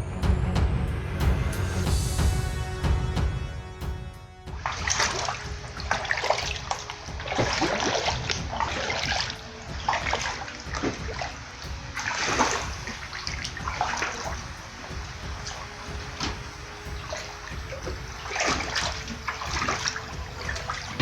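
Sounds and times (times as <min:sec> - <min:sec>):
low rumble: 0:00.0 - 0:21.0
water splashing: 0:01.6 - 0:21.0.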